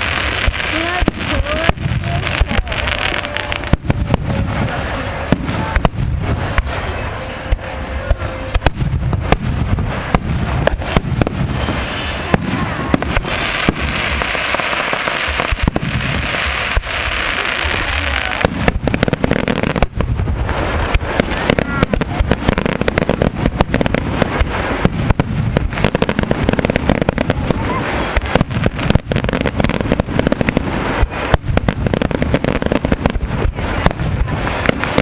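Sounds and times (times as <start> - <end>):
crackling hiss of fireworks: 0.0 - 35.0
fireworks exploding: 0.0 - 35.0.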